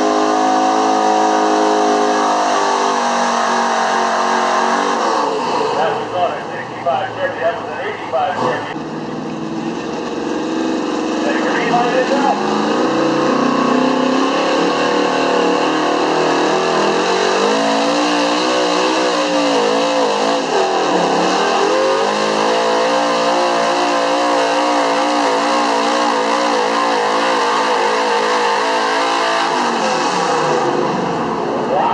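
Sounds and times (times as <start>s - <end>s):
engine at full throttle: 0.0s - 31.9s.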